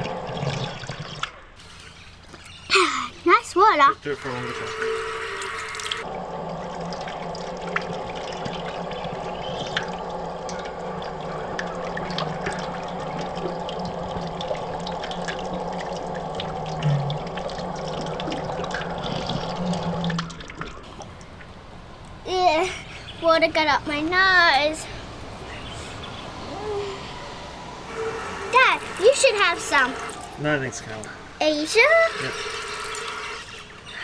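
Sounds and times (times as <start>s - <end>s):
fountain water splashing on metal: 0.0s - 34.0s
water dripping: 5.3s - 34.0s.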